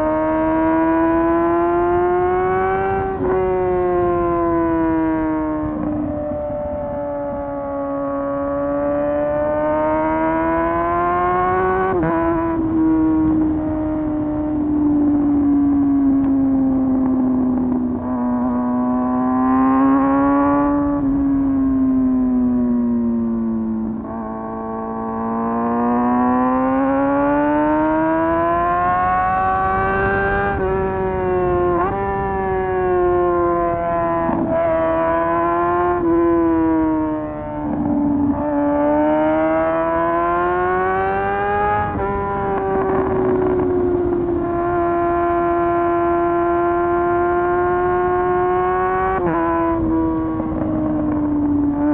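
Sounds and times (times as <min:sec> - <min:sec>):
motorcycle engine shifting gears: 0:00.0 - 0:51.9.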